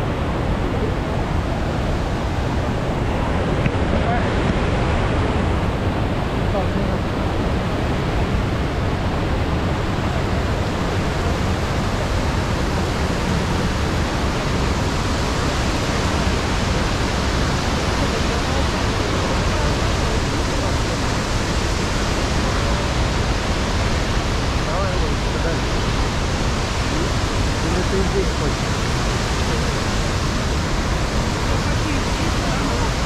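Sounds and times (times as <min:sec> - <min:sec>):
rushing waterfall: 0:00.0 - 0:33.0.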